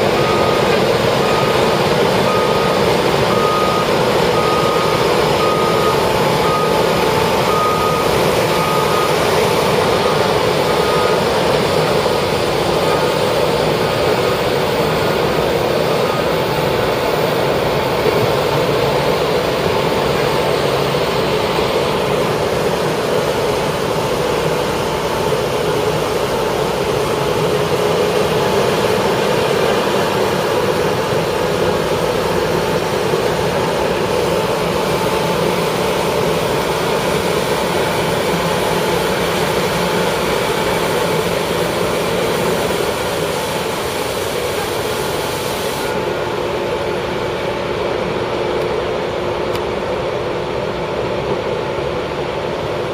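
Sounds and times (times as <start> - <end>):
paving machinery engine drone: 0.0 - 52.9.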